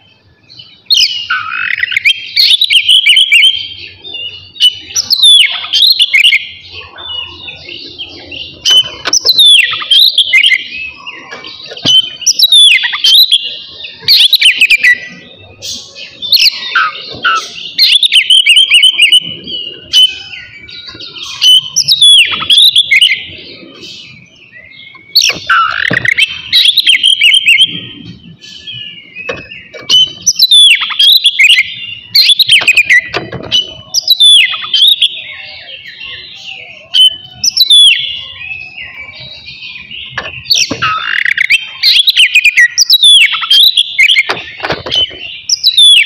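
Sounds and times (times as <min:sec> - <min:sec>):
bird singing whistles and trills: 0:00.0 - 0:46.0.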